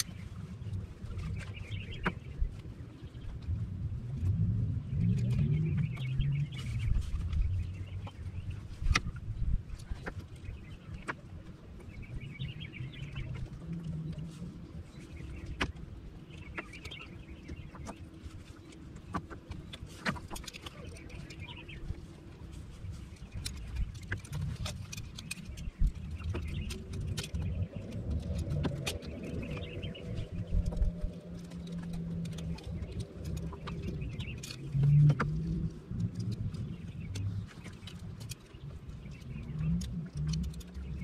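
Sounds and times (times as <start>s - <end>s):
birds chattering: 0.0s - 3.3s, 4.9s - 41.0s
low rumble: 0.0s - 41.0s.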